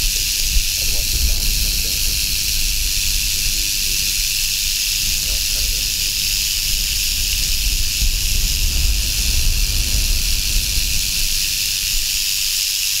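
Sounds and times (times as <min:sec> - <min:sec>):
wind on microphone: 0:00.0 - 0:12.7
rattlesnake rattle buzzing: 0:00.0 - 0:13.0.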